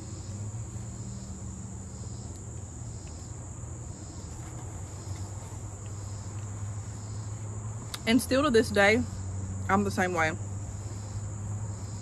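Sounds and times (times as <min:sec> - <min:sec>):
insect chirp pulsing: 0:00.0 - 0:12.0
insect high-pitched trill: 0:00.0 - 0:12.0.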